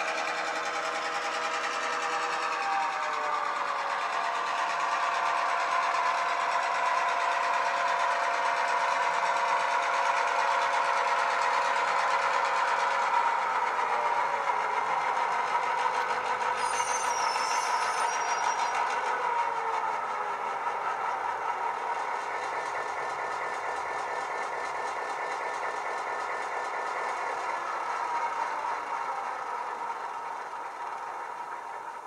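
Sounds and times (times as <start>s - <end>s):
model locomotive diesel engine sound: 0.0s - 32.0s.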